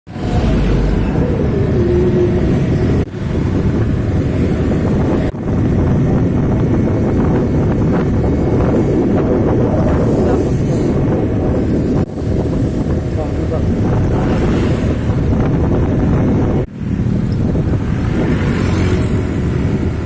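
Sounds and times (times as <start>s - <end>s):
rumble of trucks and traffic: 0.1s - 20.0s
wind buffeting microphone: 0.1s - 20.0s.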